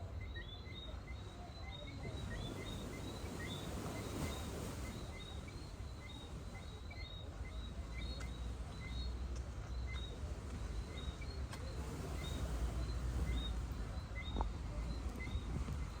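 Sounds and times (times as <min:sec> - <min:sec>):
rumble of sea and wind: 0:00.0 - 0:16.0.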